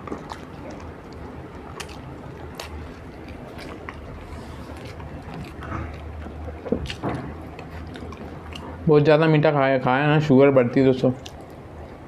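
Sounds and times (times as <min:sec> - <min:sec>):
chewing with wet mouth clicks: 0:00.0 - 0:08.8, 0:11.2 - 0:12.0
low steady hum: 0:00.0 - 0:12.0.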